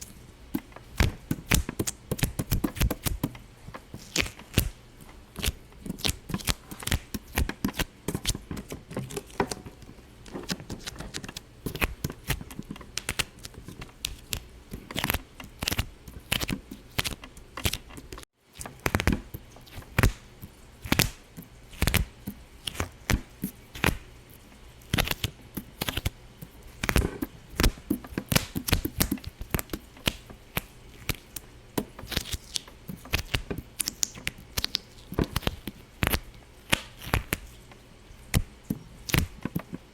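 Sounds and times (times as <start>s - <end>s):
rapid popping and clicking: 0.5s - 24.0s, 24.9s - 37.4s.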